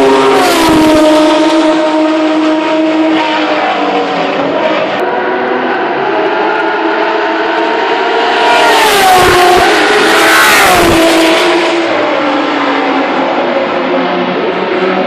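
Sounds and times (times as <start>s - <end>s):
race cars speeding past: 0.0s - 15.0s.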